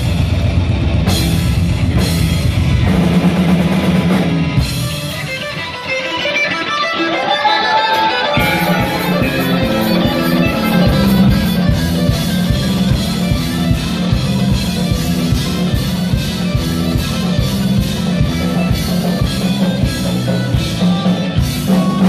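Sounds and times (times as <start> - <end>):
heavy metal band playing live: 0.0 - 22.0
lone electric guitar with bends: 3.8 - 22.0.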